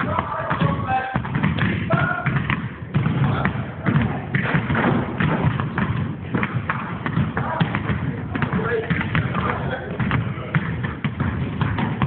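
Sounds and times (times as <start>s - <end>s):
basketballs bouncing on court floor: 0.0s - 12.0s.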